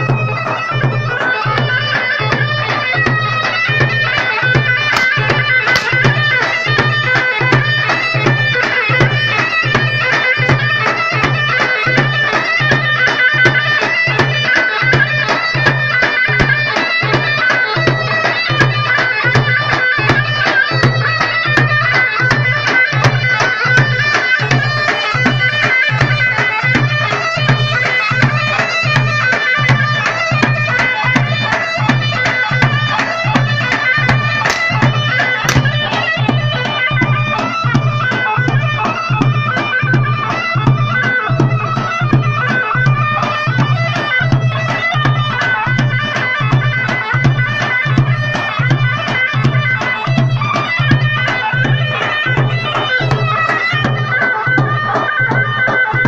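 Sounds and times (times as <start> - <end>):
nasal reed wind instrument melody: 0.0 - 56.0
steady drumbeat: 0.0 - 56.0.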